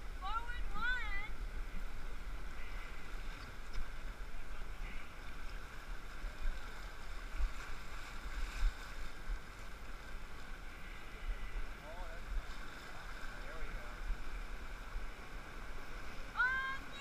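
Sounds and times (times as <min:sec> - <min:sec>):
low uneven rumble: 0:00.0 - 0:17.0
rushing whitewater: 0:00.0 - 0:17.0.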